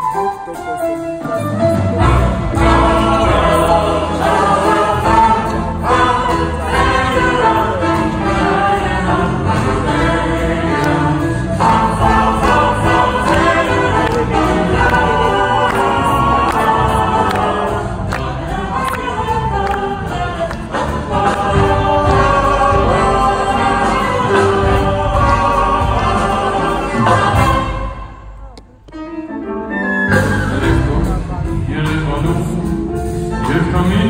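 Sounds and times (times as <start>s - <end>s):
string orchestra: 0.0s - 34.0s.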